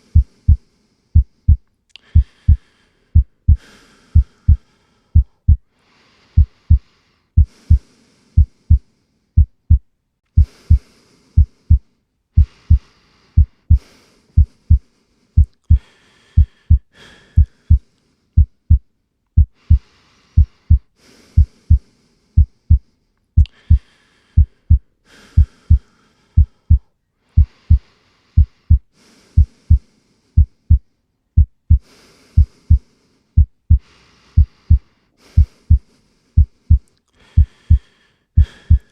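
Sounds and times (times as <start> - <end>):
slow heartbeat: 0.0 - 0.6, 1.2 - 5.7, 6.4 - 7.8, 8.4 - 15.8, 16.4 - 17.8, 18.4 - 21.8, 22.4 - 38.9.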